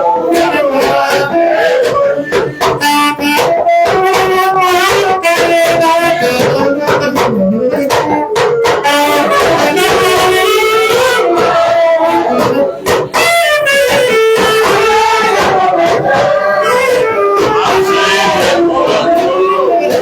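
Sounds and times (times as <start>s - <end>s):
percussion: 0.0s - 20.0s.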